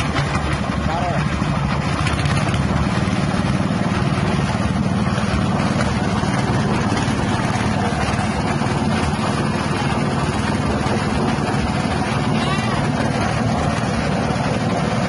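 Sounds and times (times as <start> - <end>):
petrol engine running steadily: 0.0 - 15.0.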